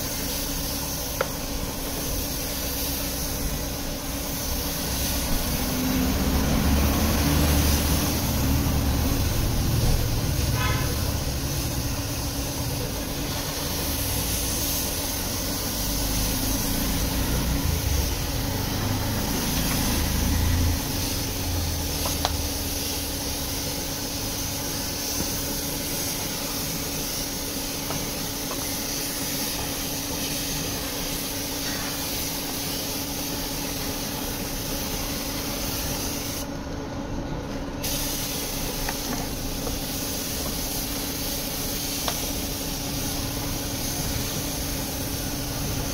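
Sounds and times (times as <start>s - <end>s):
paint spray gun hissing: 0.0s - 36.5s, 37.8s - 45.9s.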